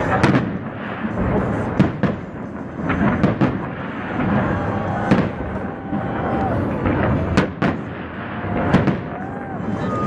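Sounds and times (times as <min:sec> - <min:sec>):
fireworks booming and crackling: 0:00.0 - 0:10.0
sharp fireworks bangs: 0:00.0 - 0:10.0.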